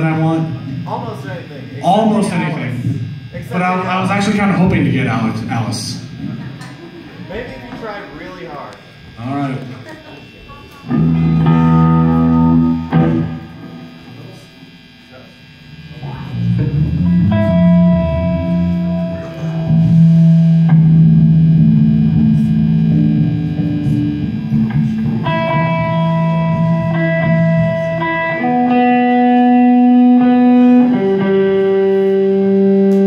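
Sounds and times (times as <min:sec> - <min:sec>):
bass guitar sustained notes: 0:00.0 - 0:09.6, 0:10.2 - 0:33.0
electric guitar sustained notes: 0:00.0 - 0:33.0.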